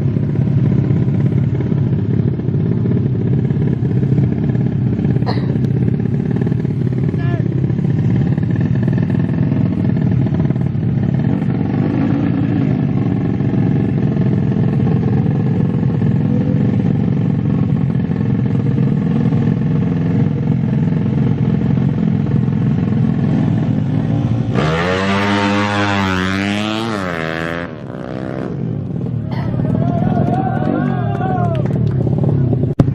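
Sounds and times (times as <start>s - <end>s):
motorcycle engines running: 0.0s - 32.9s.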